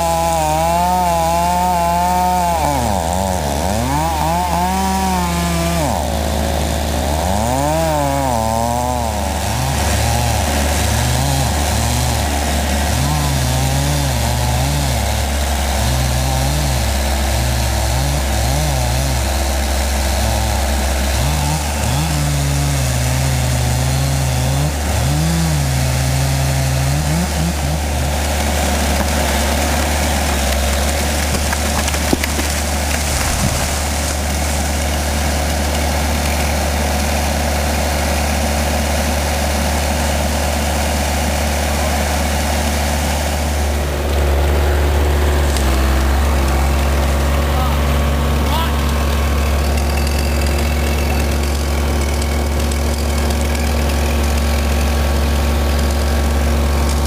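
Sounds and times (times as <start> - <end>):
backhoe engine under load: 0.0 - 57.0.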